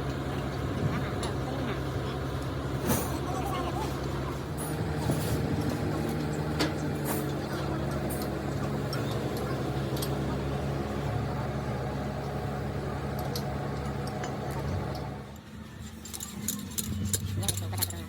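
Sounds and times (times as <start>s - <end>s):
motor humming: 0.0s - 17.7s.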